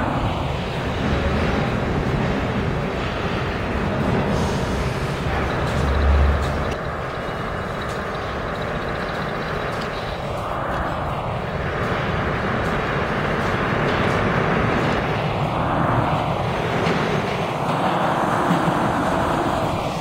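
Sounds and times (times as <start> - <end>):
subway train rumbling through tunnel: 0.0 - 20.0.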